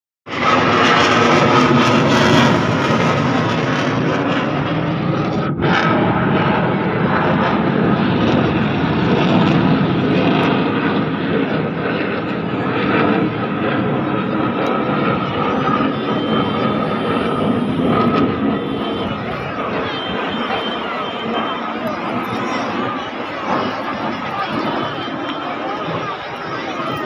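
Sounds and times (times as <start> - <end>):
aircraft flying over: 0.3 - 27.0.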